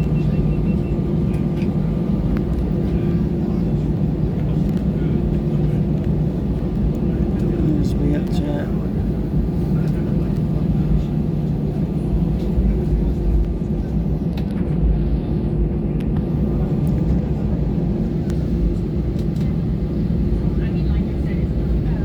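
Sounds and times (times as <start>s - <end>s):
airplane cabin rumble: 0.0s - 22.0s
constant hum: 0.0s - 22.0s.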